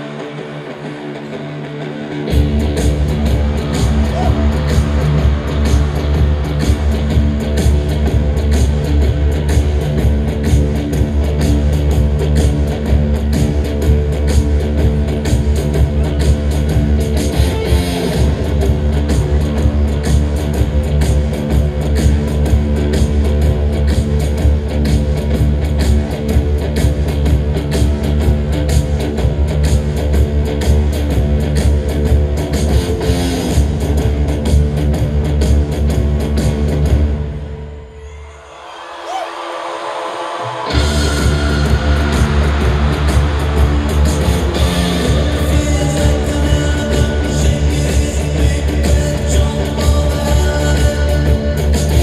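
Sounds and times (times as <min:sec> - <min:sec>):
live rock band playing: 0:00.0 - 0:37.4, 0:40.7 - 0:52.0
guitar and bass riff: 0:00.0 - 0:37.9, 0:40.6 - 0:52.0
steady drum beat: 0:02.3 - 0:37.1, 0:40.7 - 0:52.0.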